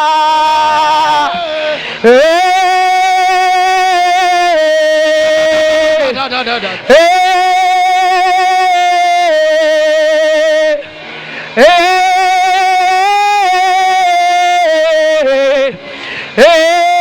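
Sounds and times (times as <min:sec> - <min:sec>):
person singing sustained notes: 0:00.0 - 0:17.0.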